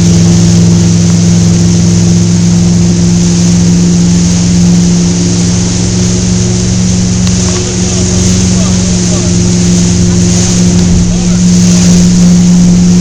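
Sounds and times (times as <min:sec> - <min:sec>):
motorboat engine running: 0:00.0 - 0:13.0
rush of water from wake: 0:00.0 - 0:13.0.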